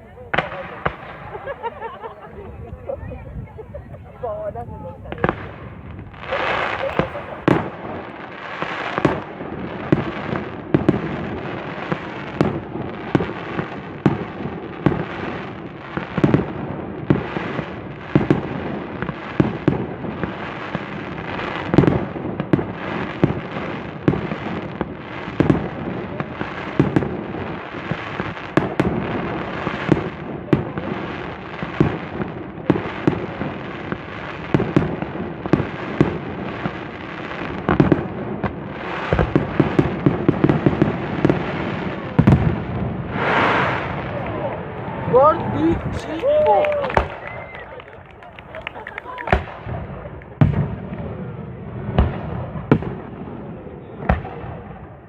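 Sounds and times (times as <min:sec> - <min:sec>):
fireworks sharp bangs: 0:00.0 - 0:55.0
small firework bursts: 0:00.0 - 0:55.0.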